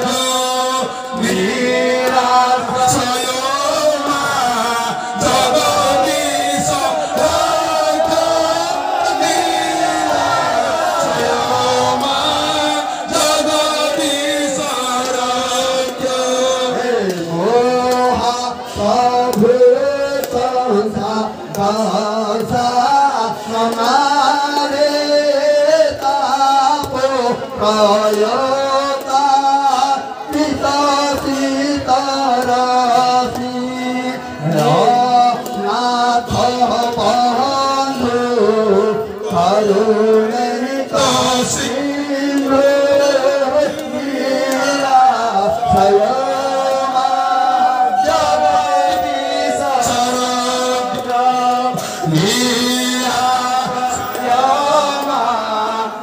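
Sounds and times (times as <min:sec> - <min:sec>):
men singing a devotional chant: 0:00.0 - 0:56.0.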